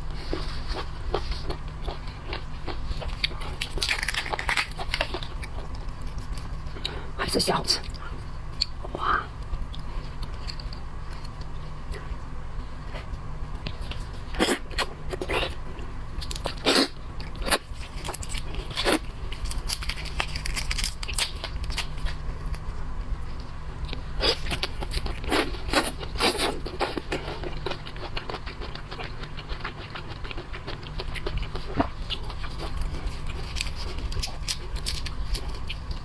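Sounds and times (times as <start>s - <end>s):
chewing and handling shellfish: 0.0s - 7.2s, 7.8s - 36.0s
steady low hum: 0.0s - 36.0s.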